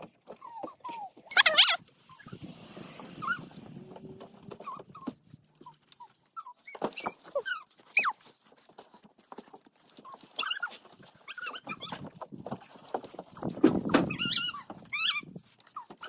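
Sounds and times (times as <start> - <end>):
squeaks on plastic slide: 0.0 - 16.0.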